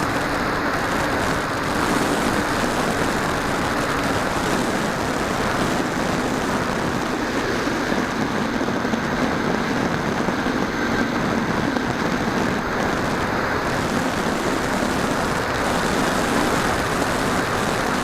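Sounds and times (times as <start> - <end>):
model aircraft motor and propeller: 0.0 - 18.0
wind rushing over microphone: 0.0 - 18.0.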